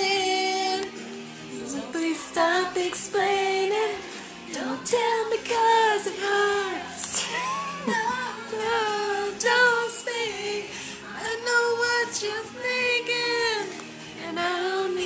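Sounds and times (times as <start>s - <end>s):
backing music: 0.0s - 15.0s
high voice singing: 1.5s - 15.0s.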